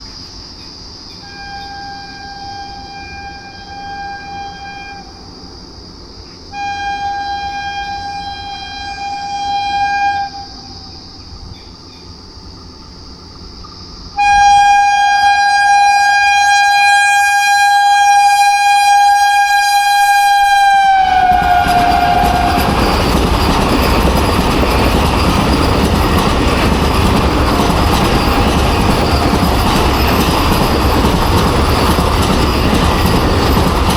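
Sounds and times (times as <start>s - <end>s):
train rushing past: 0.0s - 33.9s
train horn blasts: 1.2s - 13.1s, 14.2s - 33.9s.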